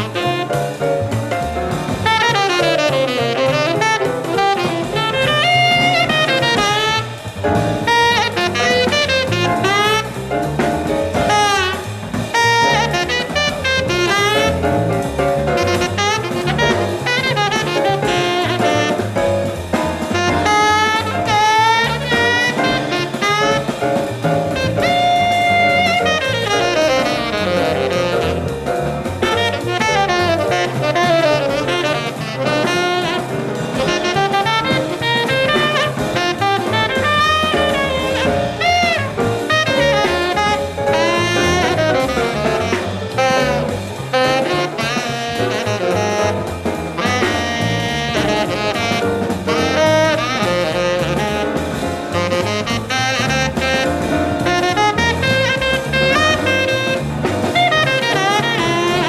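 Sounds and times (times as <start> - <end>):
drums and rhythm section: 0.0 - 59.0
tenor saxophone solo: 0.0 - 59.0.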